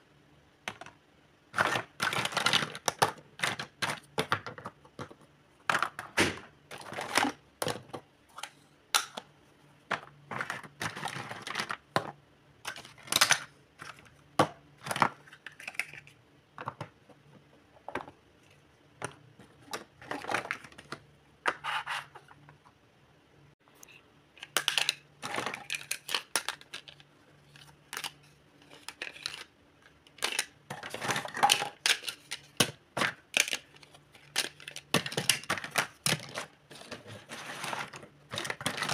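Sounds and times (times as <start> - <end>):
plastic toys clattering: 0.7 - 9.2, 9.9 - 18.2, 19.0 - 22.6, 24.4 - 38.9.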